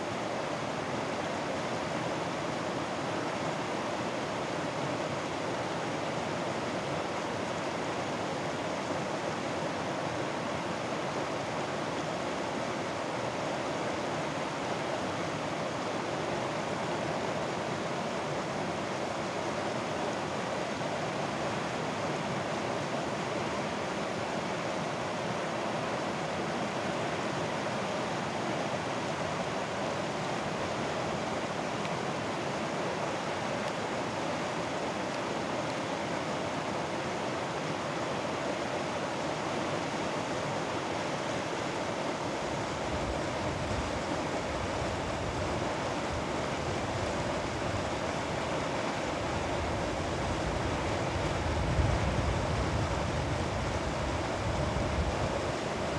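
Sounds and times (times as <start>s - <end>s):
stream rushing over rocks: 0.0s - 55.9s.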